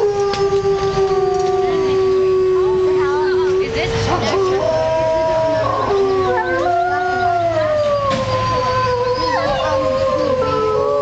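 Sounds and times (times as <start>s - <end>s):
wolves howling in chorus: 0.0s - 11.0s.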